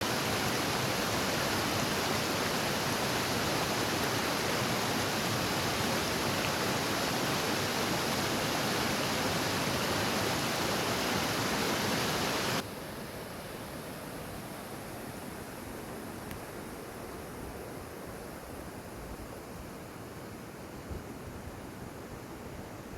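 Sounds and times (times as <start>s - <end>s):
water rushing: 0.0s - 18.6s.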